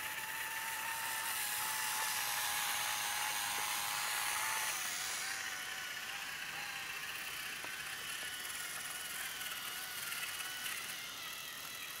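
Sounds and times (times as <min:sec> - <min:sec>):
toy train motor whine: 0:00.0 - 0:12.0.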